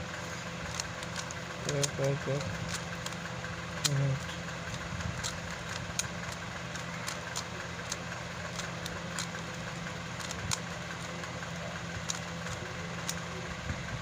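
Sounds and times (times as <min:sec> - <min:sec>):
steady low hum: 0:00.0 - 0:14.0
puzzle cube clicking: 0:00.6 - 0:13.4.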